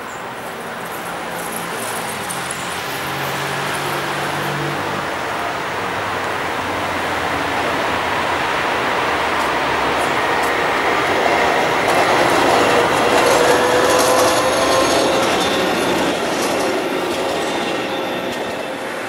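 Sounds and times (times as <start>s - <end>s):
tram passing: 0.0s - 19.0s.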